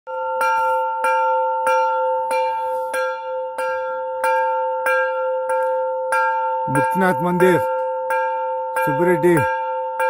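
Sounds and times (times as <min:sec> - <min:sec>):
temple bell ringing: 0:00.1 - 0:10.0.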